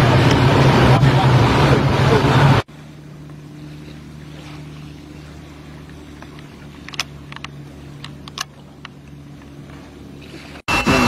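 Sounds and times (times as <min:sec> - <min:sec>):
motorboat engine running: 0:00.0 - 0:11.0
rush of wind and water: 0:00.0 - 0:11.0
steady low hum: 0:00.0 - 0:11.0.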